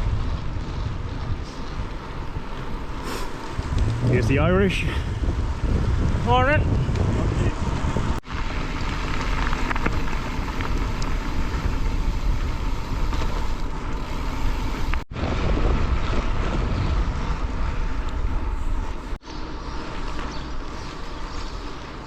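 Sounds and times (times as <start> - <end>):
wind buffeting microphone: 0.0 - 19.2
bike rolling on gravel: 0.0 - 22.0.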